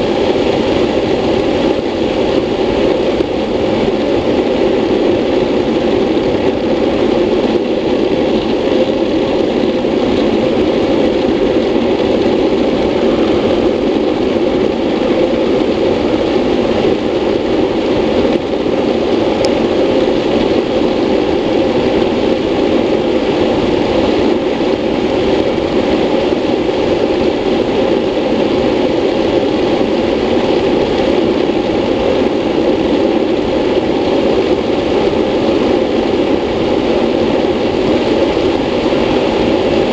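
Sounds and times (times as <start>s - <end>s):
wheels rolling on asphalt: 0.0s - 39.9s
wind rushing over camera: 0.0s - 39.9s.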